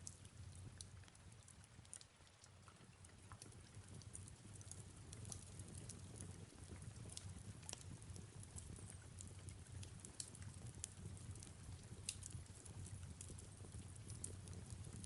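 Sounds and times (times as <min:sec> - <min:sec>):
wood fire crackling and popping: 0:00.0 - 0:02.4, 0:03.1 - 0:15.0
low rumble of flames: 0:00.0 - 0:15.0
soft rain: 0:00.0 - 0:15.0.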